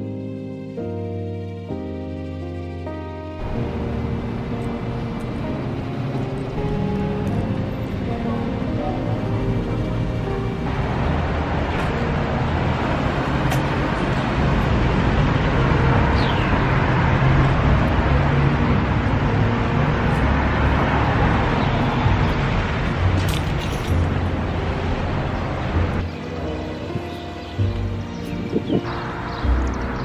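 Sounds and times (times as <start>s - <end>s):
cars passing on street: 0.0s - 30.0s.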